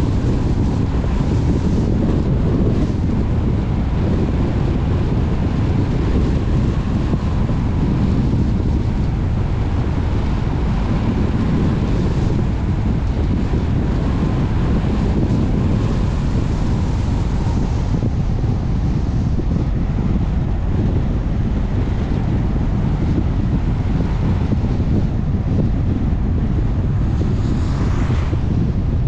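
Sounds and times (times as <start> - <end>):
car road rumble: 0.0 - 29.0
wind: 0.0 - 29.0.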